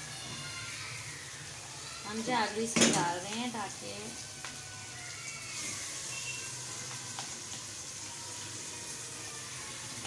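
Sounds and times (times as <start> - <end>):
masala sizzling in a pan: 0.0 - 10.0.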